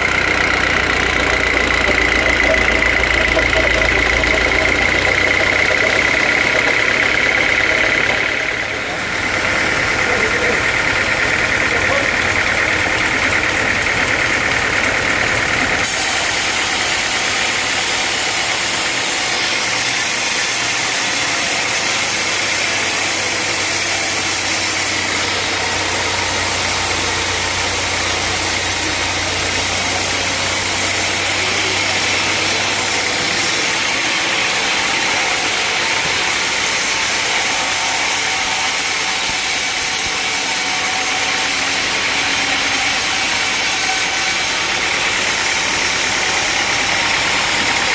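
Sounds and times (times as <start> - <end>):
sawmill machinery running: 0.0 - 47.9.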